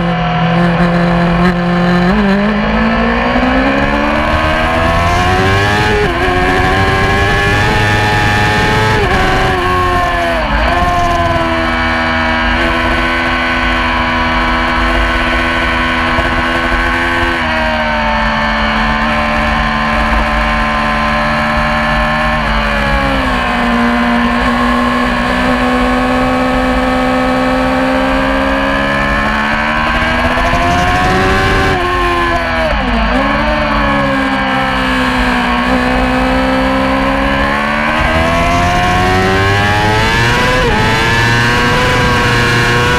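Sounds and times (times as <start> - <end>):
motorcycle engine running hard: 0.0 - 42.9.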